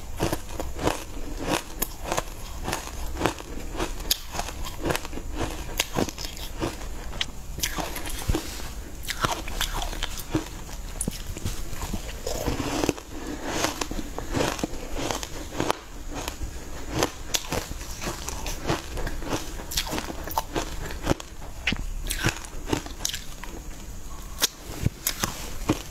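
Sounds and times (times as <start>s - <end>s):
biting and chewing soft cake: 0.0s - 25.9s.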